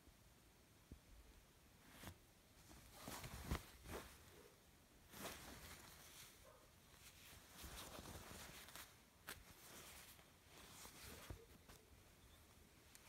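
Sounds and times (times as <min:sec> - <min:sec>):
fabric rustling: 0:01.7 - 0:13.0
soft knocks and brushes: 0:01.8 - 0:13.0.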